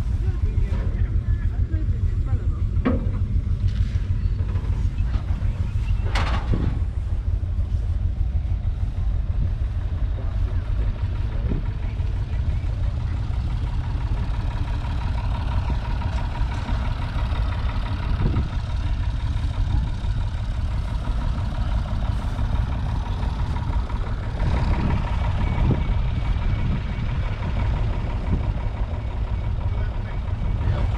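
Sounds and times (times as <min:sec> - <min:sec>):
tractor diesel engine idling: 0:00.0 - 0:30.9.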